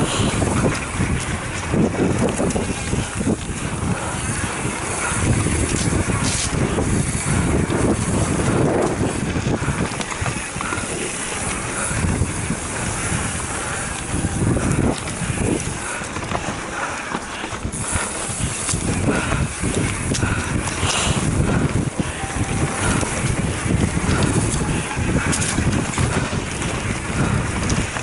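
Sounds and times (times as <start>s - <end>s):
bike rattling over bumps: 0.0s - 28.0s
tyres rumbling over dirt: 0.0s - 28.0s
wind buffeting microphone: 0.0s - 28.0s.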